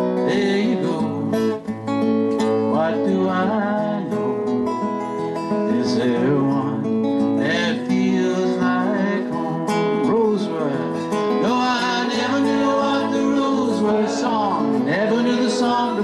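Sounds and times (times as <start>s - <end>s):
man singing folk song: 0.0s - 16.0s
strummed acoustic guitar: 0.0s - 16.0s.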